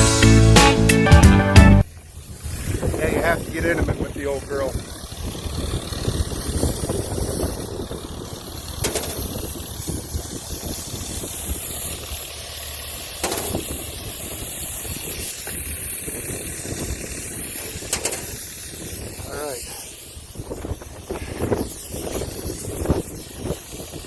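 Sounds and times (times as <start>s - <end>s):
engine rumbling: 0.0s - 24.0s
compressed air hissing: 1.8s - 24.0s.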